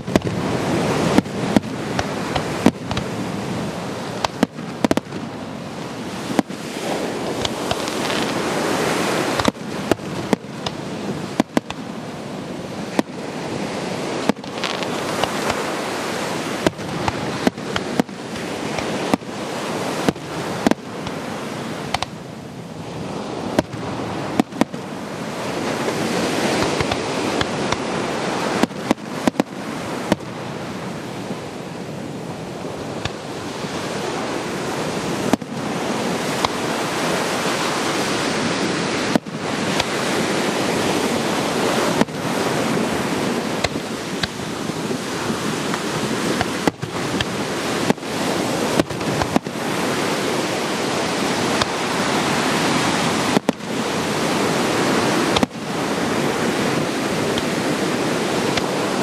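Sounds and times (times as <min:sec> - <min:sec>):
fireworks bursting with sharp bangs: 0:00.0 - 0:59.0
ocean surf rushing: 0:00.0 - 0:59.0
wind: 0:00.0 - 0:59.0.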